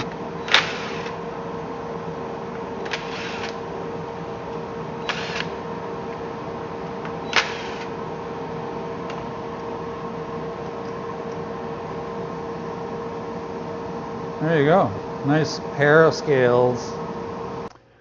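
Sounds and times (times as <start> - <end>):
workshop machine hum: 0.0 - 18.0.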